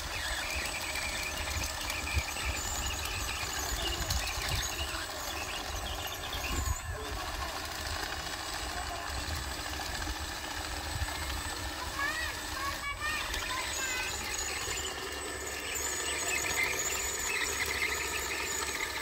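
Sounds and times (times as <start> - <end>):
toy bulldozer motor running: 0.0 - 19.0.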